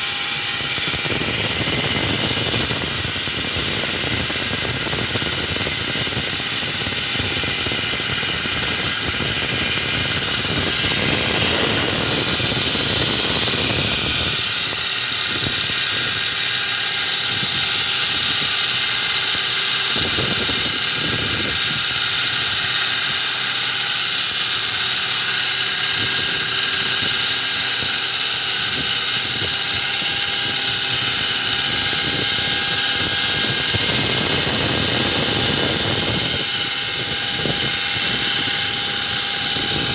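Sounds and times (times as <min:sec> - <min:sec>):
concrete cutting machine whine: 0:00.0 - 0:39.9.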